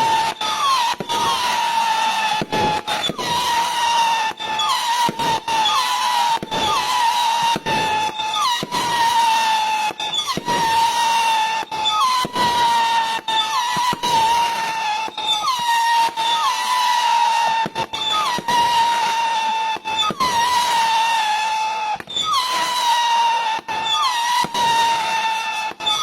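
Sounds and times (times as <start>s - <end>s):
firework cracks and pops: 0.0s - 26.0s
firework shrill whistle: 0.0s - 26.0s.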